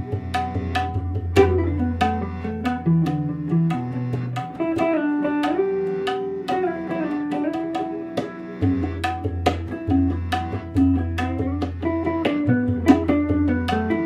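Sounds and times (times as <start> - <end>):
percussive strikes: 0.0 - 14.0
plucked-string melody: 0.0 - 14.0.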